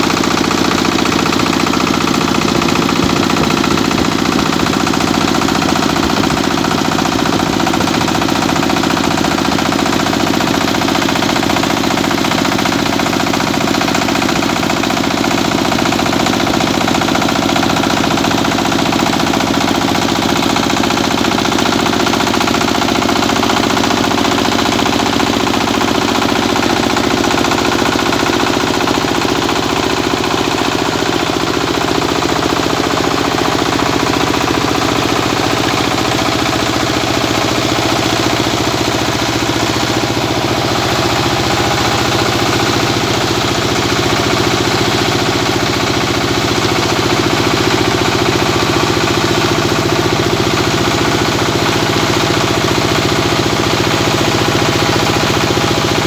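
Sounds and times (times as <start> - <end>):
diesel engine running: 0.0 - 56.0
rice mill rattling: 0.0 - 56.0.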